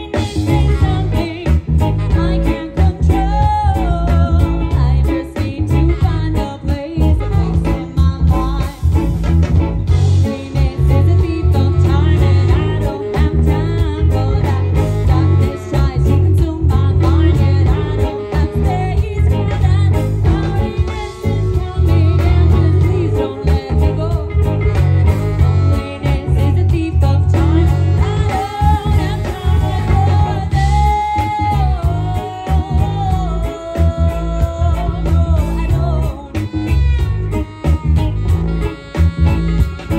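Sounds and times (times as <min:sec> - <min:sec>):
person singing: 0:00.0 - 0:09.3, 0:09.9 - 0:39.9
bass line: 0:00.0 - 0:39.9
electric guitar: 0:00.0 - 0:39.9.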